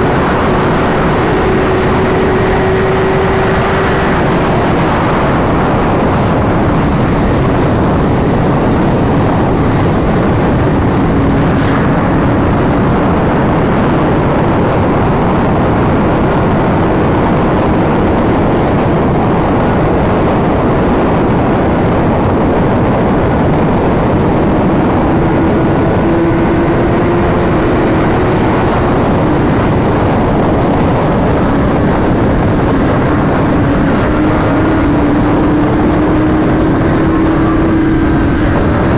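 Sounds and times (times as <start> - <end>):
motorcycle engine: 0.0 - 19.9, 23.1 - 38.9
road noise: 0.0 - 38.9
wind rushing: 0.0 - 38.9.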